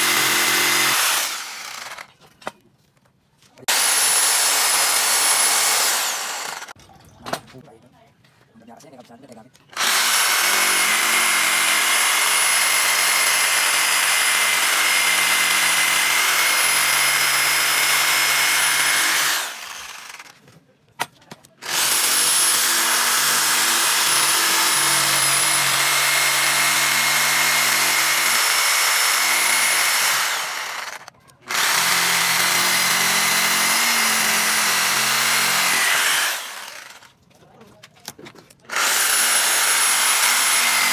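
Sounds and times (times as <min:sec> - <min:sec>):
electric jigsaw cutting wood: 0:00.0 - 0:02.1, 0:03.6 - 0:06.8, 0:09.7 - 0:20.4, 0:21.6 - 0:37.1, 0:38.7 - 0:40.9.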